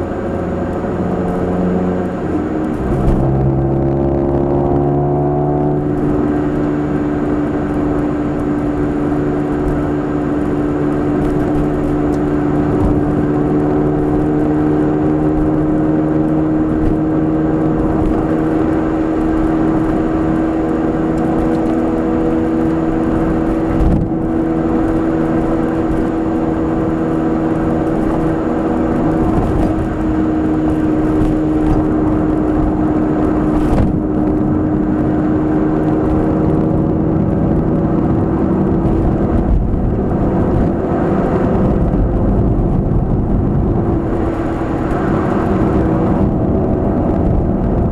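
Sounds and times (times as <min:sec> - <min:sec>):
car engine droning: 0:00.0 - 0:47.9
road and tyre noise: 0:00.0 - 0:47.9.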